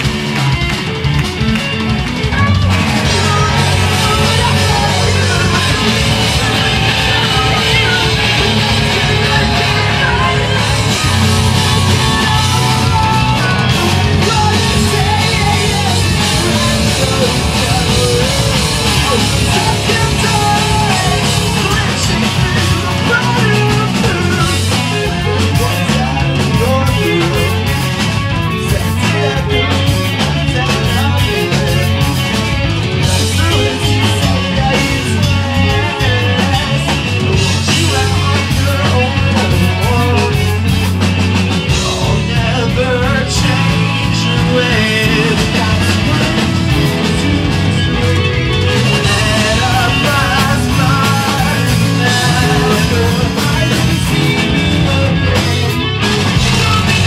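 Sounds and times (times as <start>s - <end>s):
bass guitar: 0.0s - 57.0s
drum kit: 0.0s - 57.0s
electric guitars: 0.0s - 57.0s
person singing: 2.2s - 32.3s, 33.0s - 41.0s, 41.6s - 57.0s.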